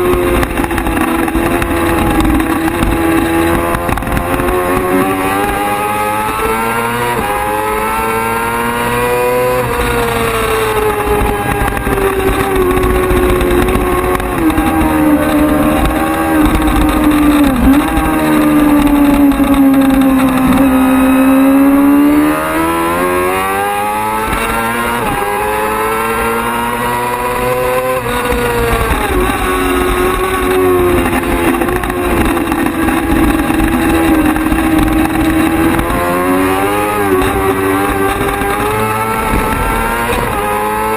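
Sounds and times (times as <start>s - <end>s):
sportbike engine racing: 0.0s - 40.9s.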